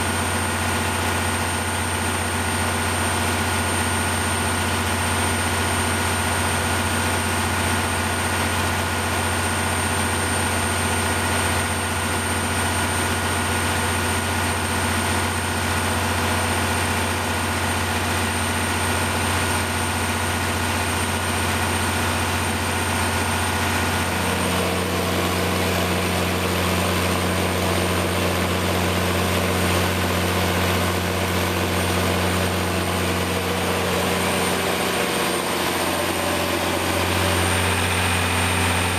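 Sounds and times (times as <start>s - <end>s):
diesel generator humming: 0.0s - 38.9s.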